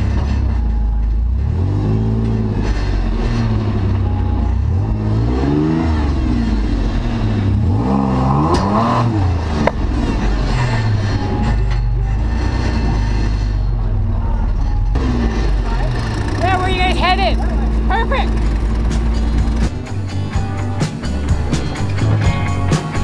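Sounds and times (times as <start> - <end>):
engine revving: 0.0 - 23.0.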